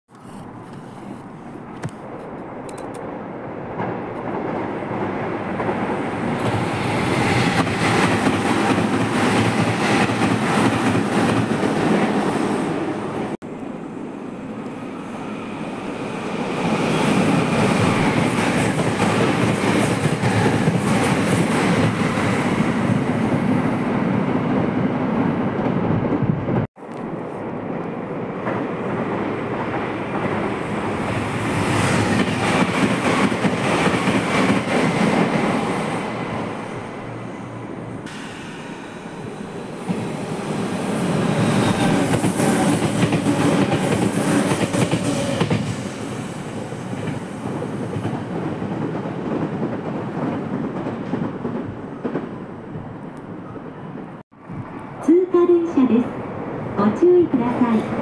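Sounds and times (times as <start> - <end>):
train wheels rumbling on rails: 0.5 - 13.4, 14.6 - 55.0.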